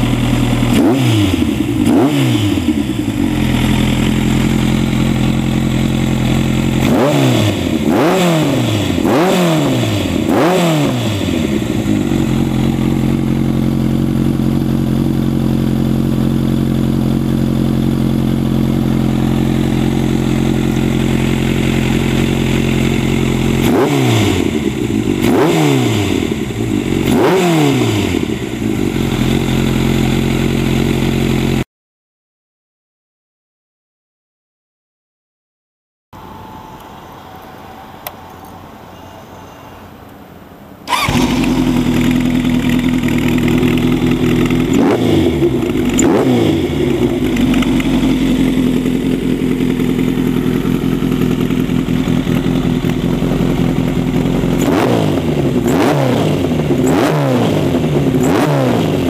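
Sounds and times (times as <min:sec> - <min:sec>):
motorcycle engine idling and revving: 0:00.0 - 0:31.6, 0:40.8 - 0:59.0.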